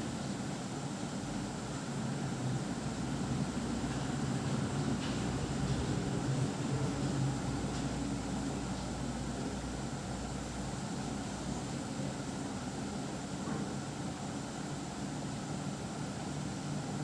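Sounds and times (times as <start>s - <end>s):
low mechanical hum with hiss: 0.0s - 17.0s.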